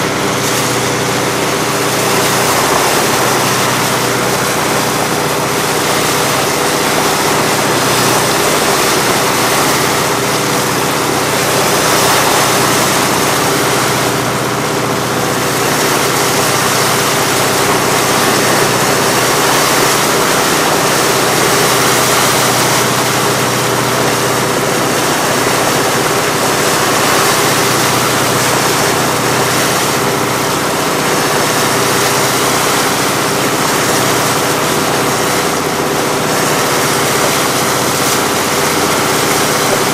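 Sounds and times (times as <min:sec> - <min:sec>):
boat engine running: 0:00.0 - 0:39.9
rushing water and wind: 0:00.0 - 0:39.9.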